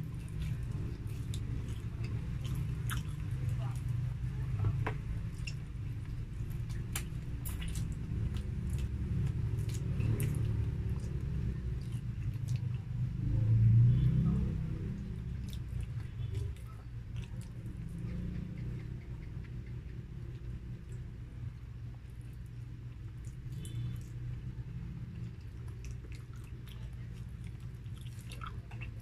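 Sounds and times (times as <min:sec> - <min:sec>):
chewing and biting: 0:00.0 - 0:04.2, 0:05.0 - 0:13.4, 0:14.8 - 0:21.1, 0:21.9 - 0:29.0
low background hum: 0:00.0 - 0:29.0.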